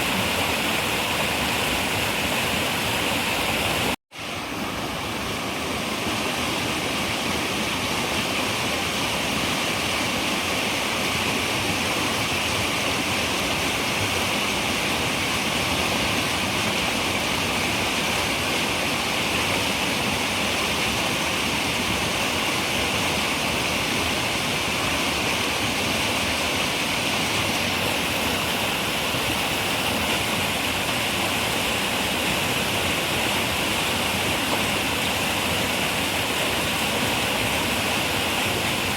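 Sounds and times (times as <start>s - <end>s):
river water running: 0.0s - 38.9s.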